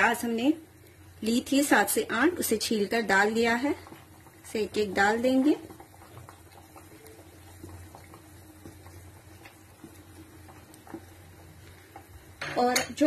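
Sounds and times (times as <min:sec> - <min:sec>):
curry bubbling in a pan: 0:00.0 - 0:12.4.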